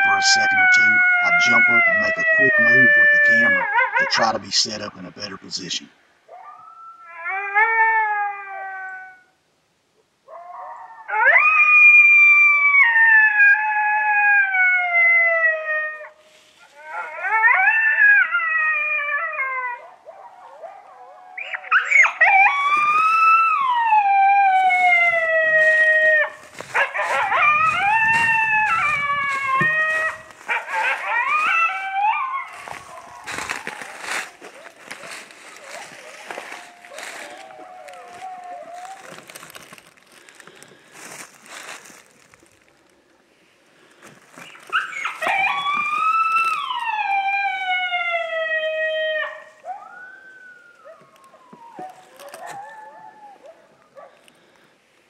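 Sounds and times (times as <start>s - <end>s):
coyote howling: 0.0s - 4.4s, 6.3s - 9.4s, 10.3s - 40.0s, 44.4s - 54.2s
coyotes howling and yipping: 0.0s - 4.5s, 6.1s - 9.4s, 10.2s - 42.8s, 44.1s - 54.4s.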